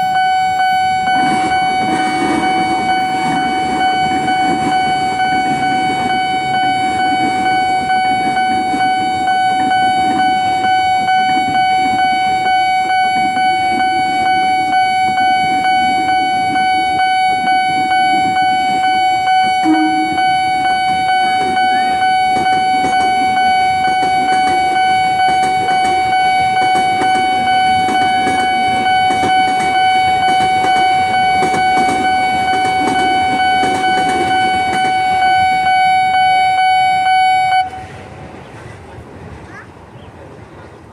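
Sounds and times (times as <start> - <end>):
level-crossing warning alarm: 0.0 - 38.2.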